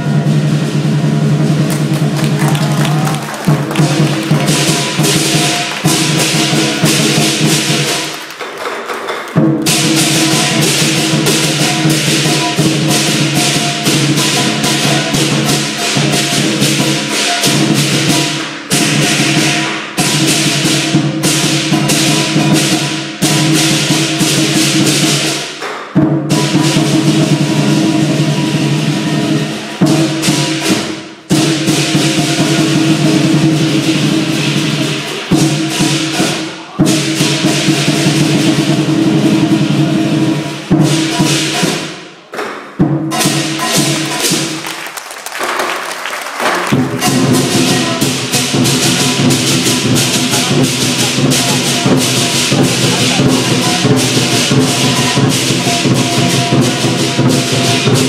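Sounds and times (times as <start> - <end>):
cymbals clashing: 0.0 - 44.8, 46.4 - 58.0
big drum beaten fast: 0.0 - 58.0.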